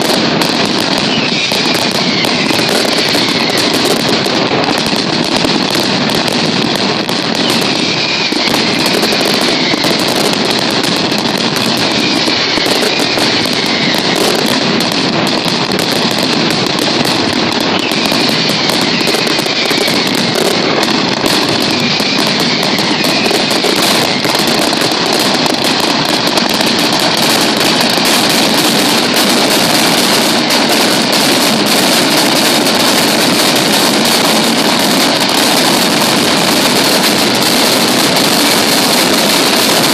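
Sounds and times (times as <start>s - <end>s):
firecrackers exploding: 0.0s - 39.9s.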